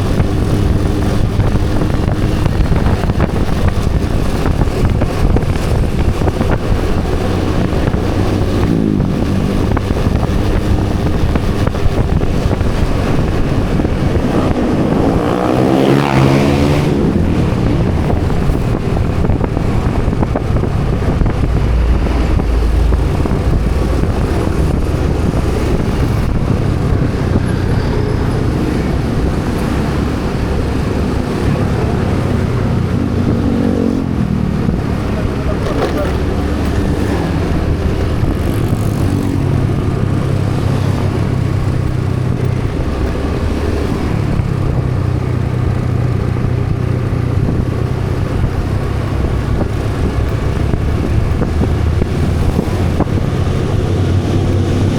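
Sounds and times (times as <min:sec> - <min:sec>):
passing vehicle engine: 0:00.0 - 0:54.9
road and wind noise: 0:00.0 - 0:54.9.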